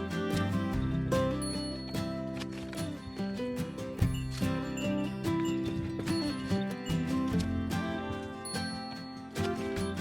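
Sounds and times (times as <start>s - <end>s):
light percussion: 0.0s - 10.0s.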